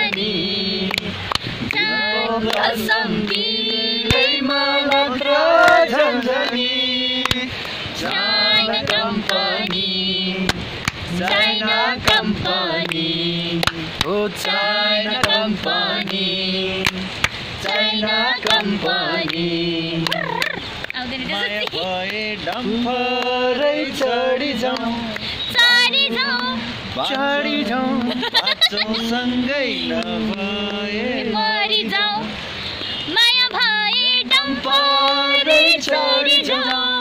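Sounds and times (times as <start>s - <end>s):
group singing together: 0.0s - 37.0s.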